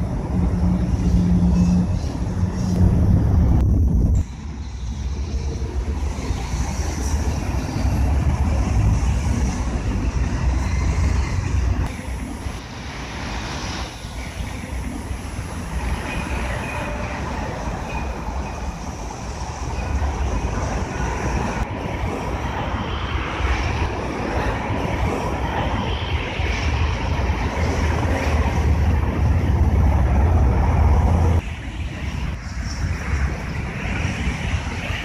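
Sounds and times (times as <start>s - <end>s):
passing cars rumbling: 0.0s - 35.0s.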